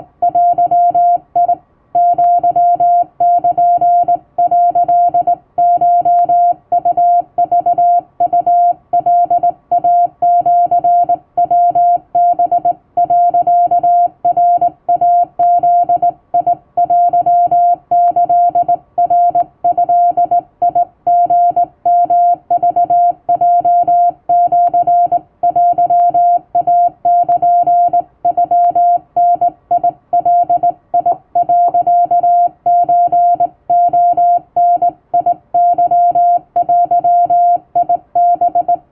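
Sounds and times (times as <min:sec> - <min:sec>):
morse code beeps: 0:00.2 - 0:38.8.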